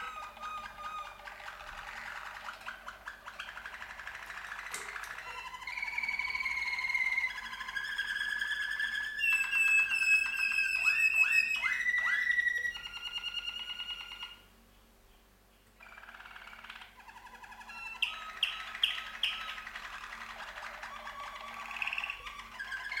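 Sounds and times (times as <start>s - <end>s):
canaries singing trills: 0.0s - 23.0s.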